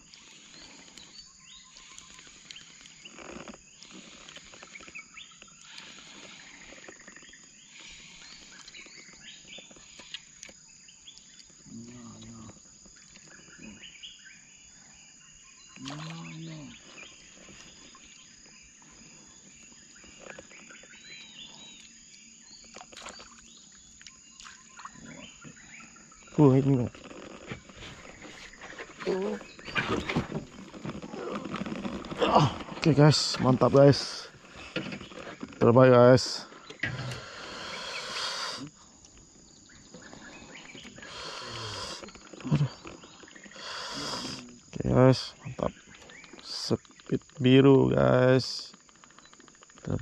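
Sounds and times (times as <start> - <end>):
insect calls: 0.0 - 50.0.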